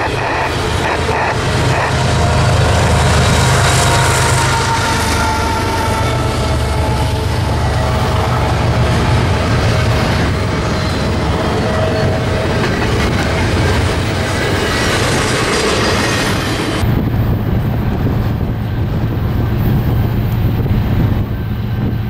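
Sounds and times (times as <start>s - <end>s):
diesel locomotive rumble: 0.0s - 22.0s
freight train wheels rumbling: 0.0s - 22.0s
clickety-clack of rails: 2.9s - 22.0s.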